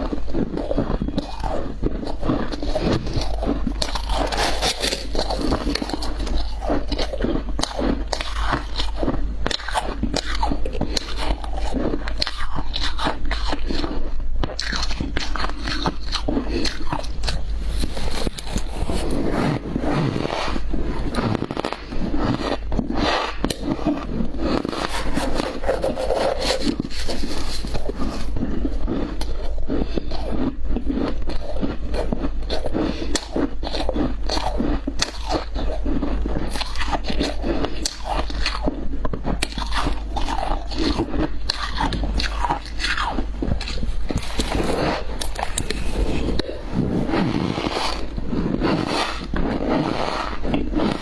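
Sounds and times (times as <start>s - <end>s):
ice being chewed: 0.0s - 51.0s.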